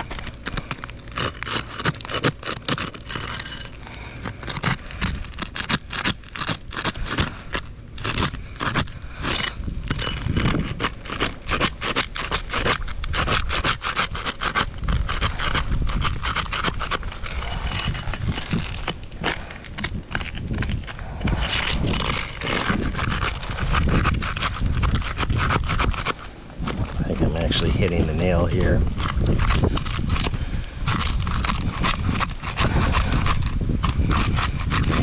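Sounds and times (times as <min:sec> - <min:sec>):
pry tool scraping under shingles: 0:00.0 - 0:35.0.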